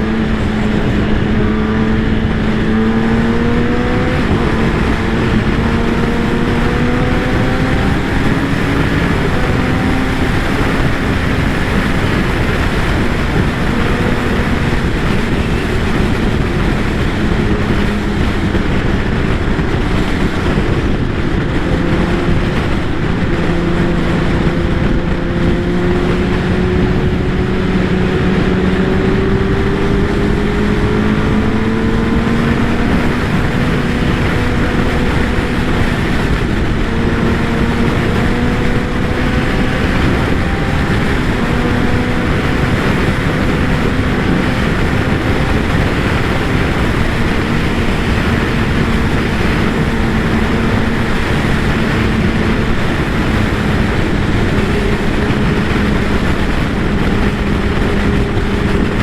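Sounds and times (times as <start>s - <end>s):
motorcycle engine cruising: 0.0s - 59.0s
wind rush: 0.0s - 59.0s.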